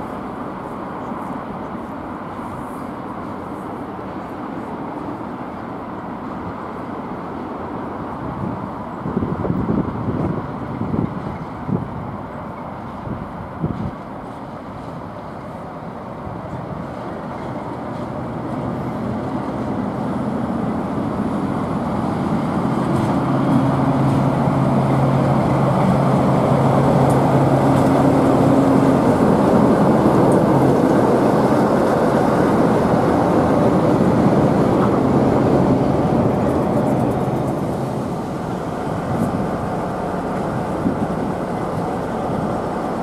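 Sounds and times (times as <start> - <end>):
diesel locomotive engine drone: 0.0 - 43.0.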